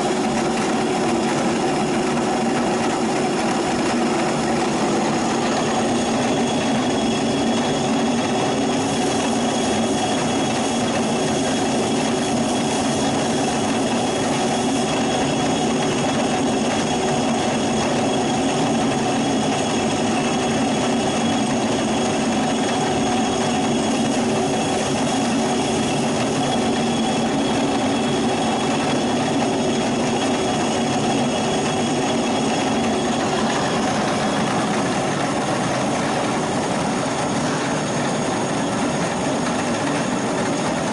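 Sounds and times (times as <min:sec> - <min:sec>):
stone mill grinding: 0:00.0 - 0:40.9.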